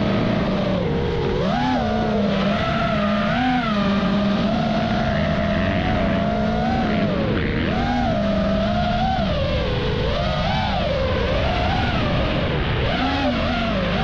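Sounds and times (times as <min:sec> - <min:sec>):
dirt bike revving: 0:00.0 - 0:14.0
drone motors whining: 0:00.0 - 0:14.0.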